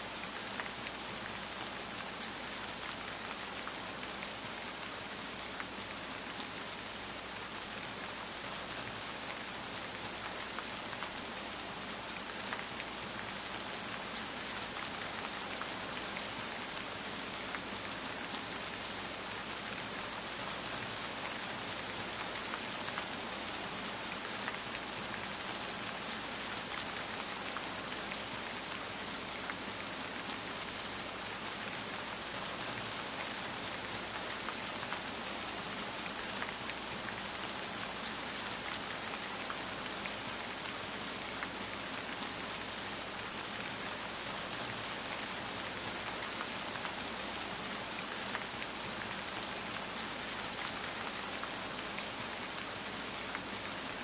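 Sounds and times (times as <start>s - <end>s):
steady rain hiss: 0.0s - 54.0s
raindrops ticking on surface: 0.2s - 7.6s, 8.2s - 54.0s.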